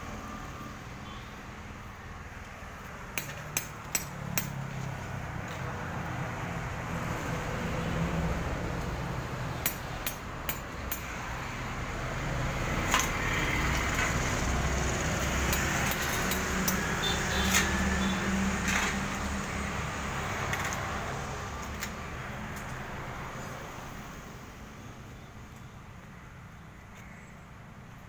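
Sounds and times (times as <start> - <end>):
passing road traffic rumble: 0.0 - 28.0.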